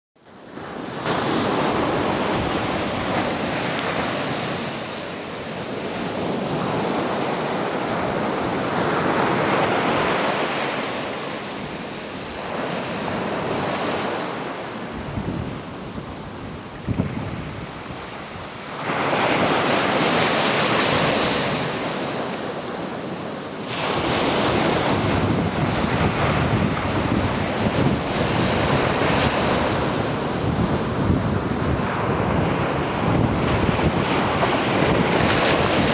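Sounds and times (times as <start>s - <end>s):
sea waves washing onto beach: 0.3s - 35.9s
wind buffeting microphone: 0.5s - 35.9s.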